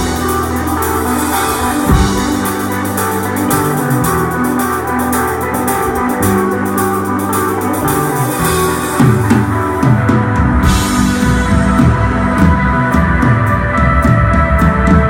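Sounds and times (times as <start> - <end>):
bass guitar sliding: 0.0 - 15.0
drums with cymbal strokes: 0.0 - 15.0
electric guitar sustained notes: 0.0 - 15.0.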